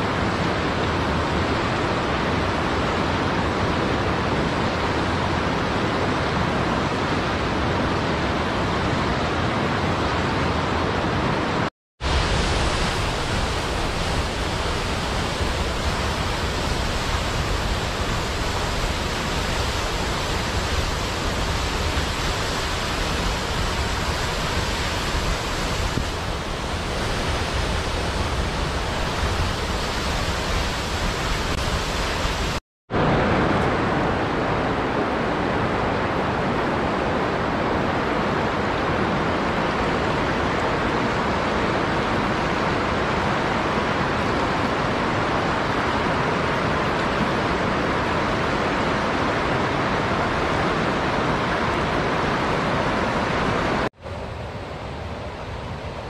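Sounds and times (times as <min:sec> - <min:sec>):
mountain stream and waterfall rushing: 0:00.0 - 0:56.0.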